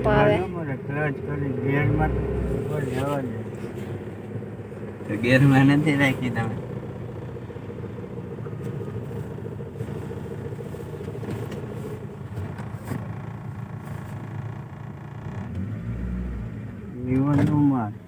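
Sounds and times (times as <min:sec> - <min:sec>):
car engine hum inside cabin: 0:00.0 - 0:18.0.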